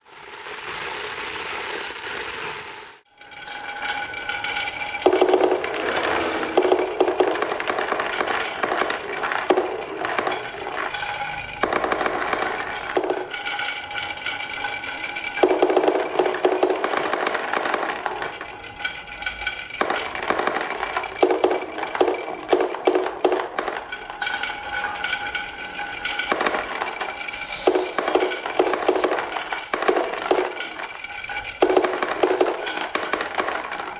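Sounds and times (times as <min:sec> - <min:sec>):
marbles rolling on wooden run: 0:00.1 - 0:33.9.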